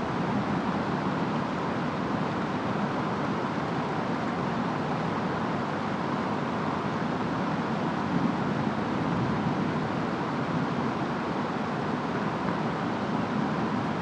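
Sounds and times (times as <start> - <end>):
rain: 0.0 - 14.0
wind: 0.0 - 14.0.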